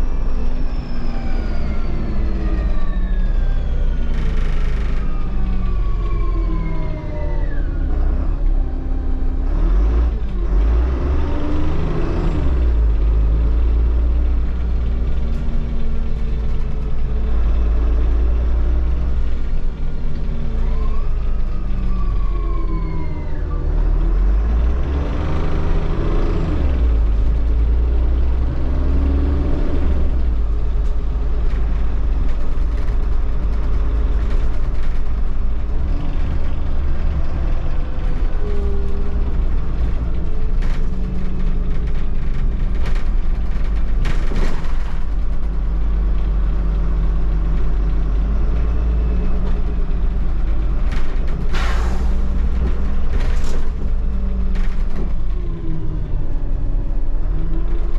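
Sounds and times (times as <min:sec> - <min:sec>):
bus engine rumble: 0:00.0 - 0:57.9.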